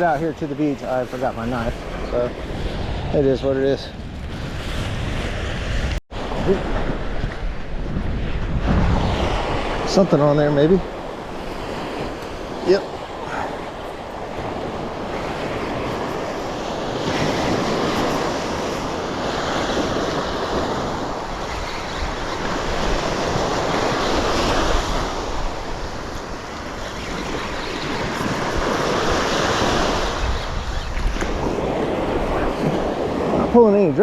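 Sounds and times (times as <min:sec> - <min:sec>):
wind buffeting microphone: 0:00.0 - 0:34.0
surf breaking on beach: 0:04.3 - 0:34.0.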